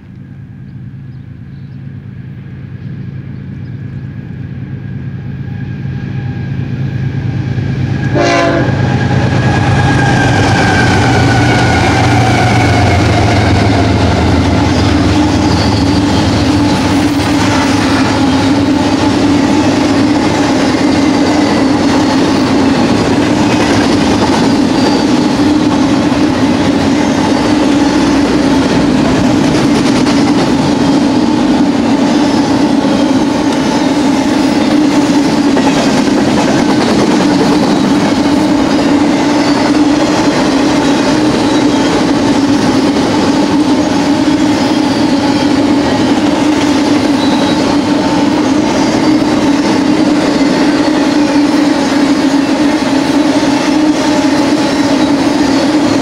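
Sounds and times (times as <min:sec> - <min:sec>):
diesel locomotives passing: 0:00.0 - 0:56.0
steel wheels rumbling on rail: 0:00.0 - 0:56.0.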